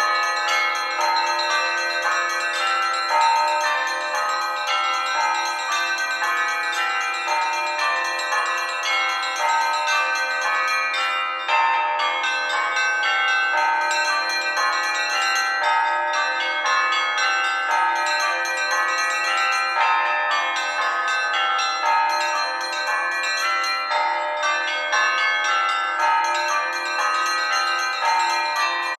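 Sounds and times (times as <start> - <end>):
church bells pealing: 0.0 - 29.0.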